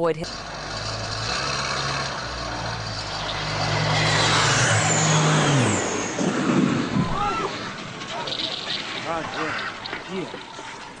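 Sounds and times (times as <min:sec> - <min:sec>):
low-flying plane passing: 0:00.2 - 0:11.0.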